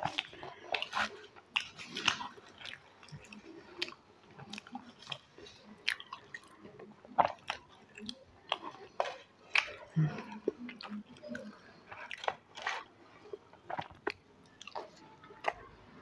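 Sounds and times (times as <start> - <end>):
close chewing: 0.0 - 15.7.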